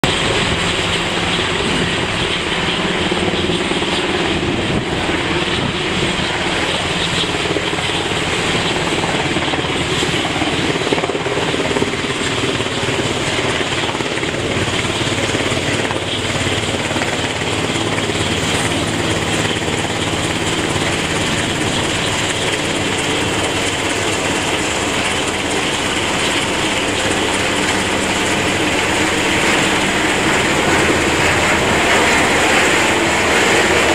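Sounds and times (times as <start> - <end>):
helicopter rotors and engines: 0.0 - 33.9.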